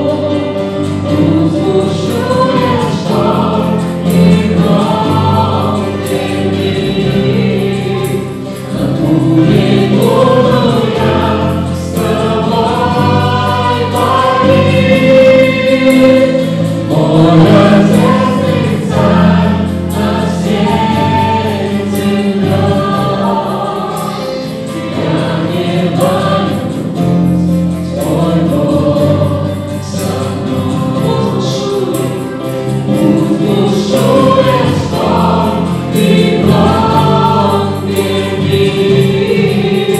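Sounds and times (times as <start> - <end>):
acoustic guitar: 0.0 - 39.9
men and women singing together: 0.0 - 39.9.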